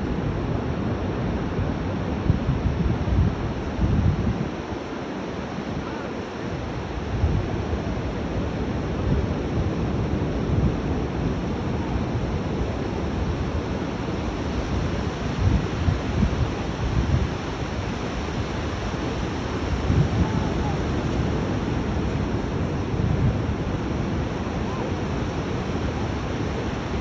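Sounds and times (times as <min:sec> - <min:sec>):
sea surf breaking on beach: 0:00.0 - 0:27.0
wind gusting over microphone: 0:00.0 - 0:27.0.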